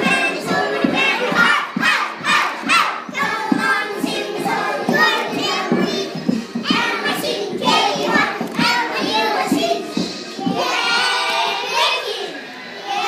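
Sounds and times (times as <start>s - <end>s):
music playing: 0.0s - 13.0s
young children singing: 0.0s - 13.0s.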